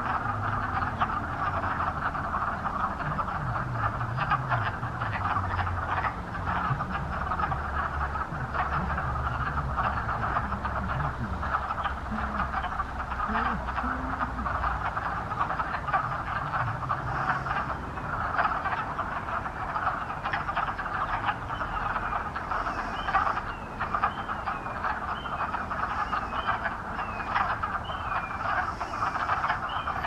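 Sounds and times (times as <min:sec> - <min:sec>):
faint low rumble: 0:00.0 - 0:30.0
frogs clucking chorus: 0:00.0 - 0:30.0.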